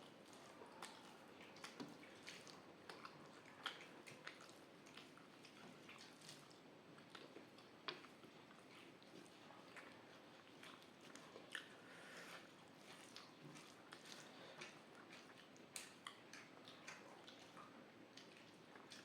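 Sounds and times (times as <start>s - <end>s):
person chewing food: 0.1s - 19.0s.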